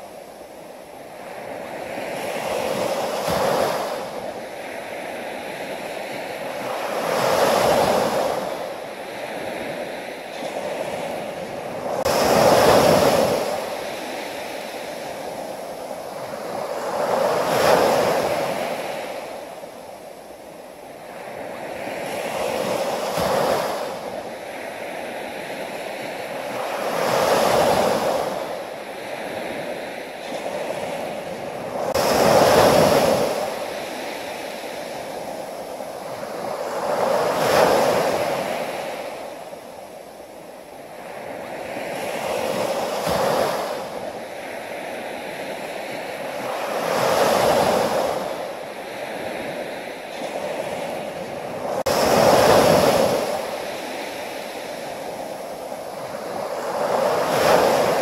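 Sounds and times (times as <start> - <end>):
small waves breaking on sand: 0.0 - 58.0.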